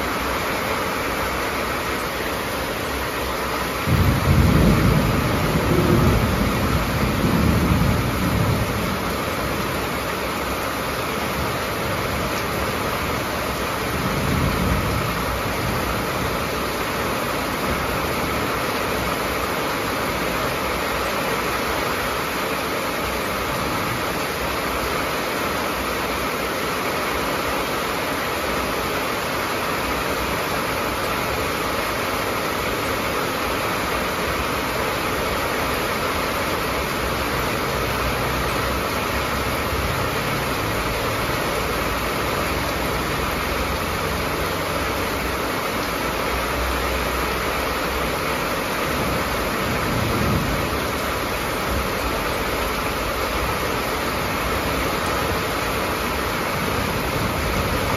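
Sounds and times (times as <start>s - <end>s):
heavy rain on a metal roof: 0.0s - 57.9s.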